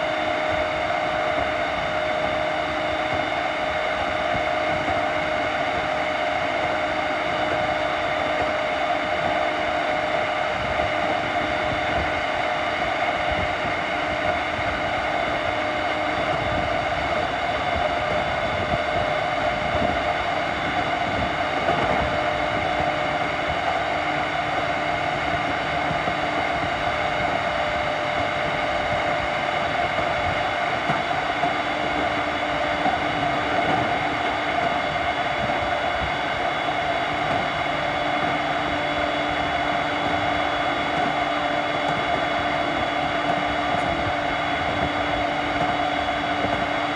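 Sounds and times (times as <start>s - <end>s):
electric motor whining: 0.0s - 46.9s
train wheel and rail noise: 0.0s - 46.9s.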